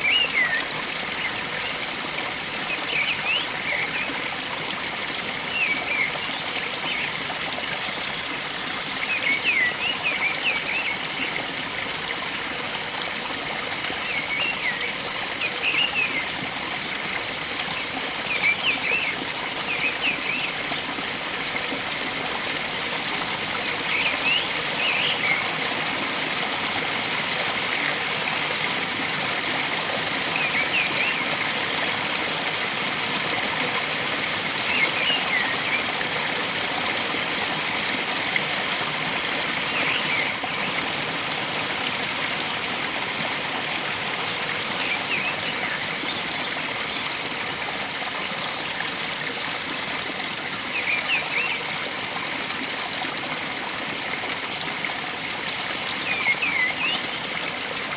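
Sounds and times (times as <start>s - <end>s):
water flowing: 0.0s - 57.9s.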